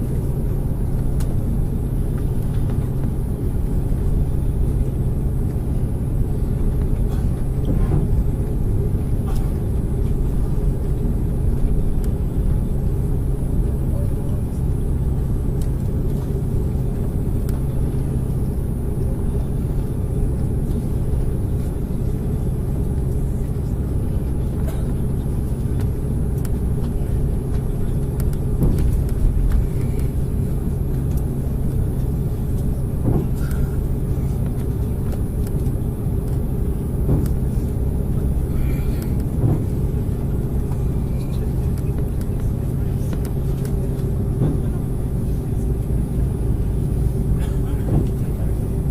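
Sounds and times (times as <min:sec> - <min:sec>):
aircraft cabin rumble: 0:00.0 - 0:48.9.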